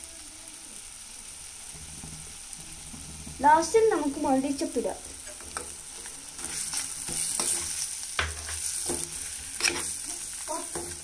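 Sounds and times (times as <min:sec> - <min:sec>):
chicken sizzling in clay pot: 0:00.0 - 0:11.0.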